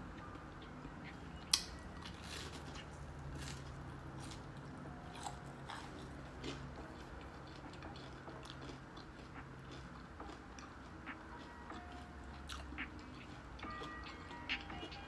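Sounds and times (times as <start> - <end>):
steady low hum: 0.0 - 15.0
person chewing fried shrimp: 0.1 - 15.0.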